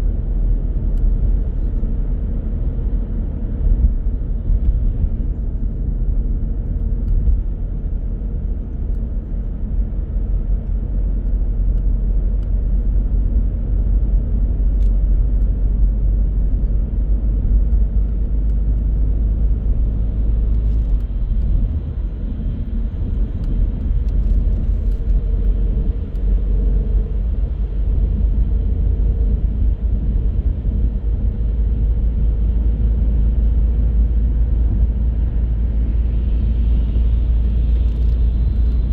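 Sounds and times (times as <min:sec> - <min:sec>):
car rumbling on the move: 0:00.0 - 0:38.9.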